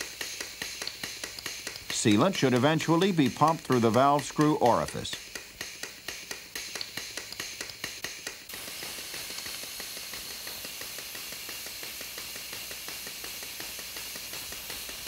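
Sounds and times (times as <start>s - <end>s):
hiss of escaping air: 0.0s - 15.0s
pump mechanism clicking: 0.0s - 15.0s.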